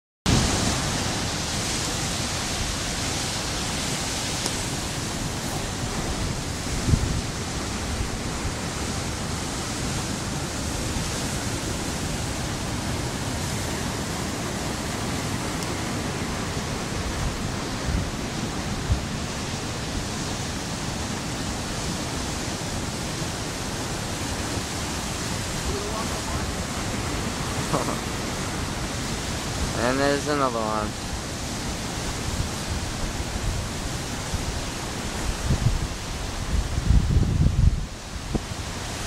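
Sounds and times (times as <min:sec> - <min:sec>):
ocean surf breaking on rocks: 0:00.3 - 0:39.0.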